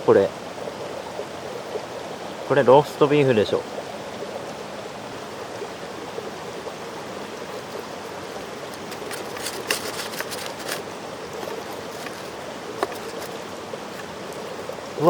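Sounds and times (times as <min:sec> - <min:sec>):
mountain stream flowing: 0:00.0 - 0:15.0.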